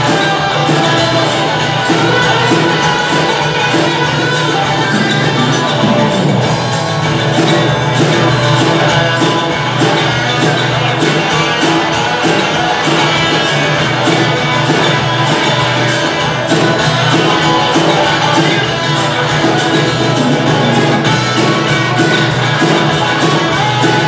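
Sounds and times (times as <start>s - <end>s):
acoustic guitar: 0.0s - 24.0s
electric guitar: 0.0s - 24.0s
steady drum beat: 0.0s - 24.0s.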